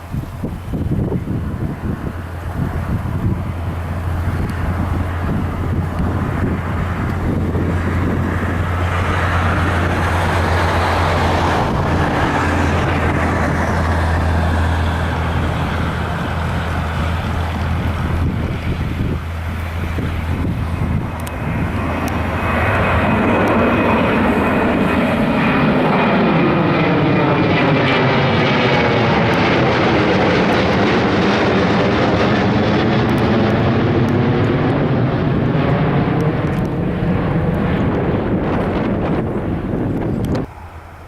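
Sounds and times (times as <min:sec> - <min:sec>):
jet airliner passing: 0:00.0 - 0:41.0.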